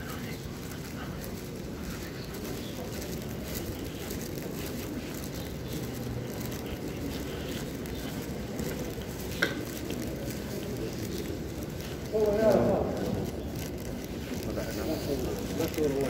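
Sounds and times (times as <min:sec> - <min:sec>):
murmur of many voices: 0:00.0 - 0:16.0.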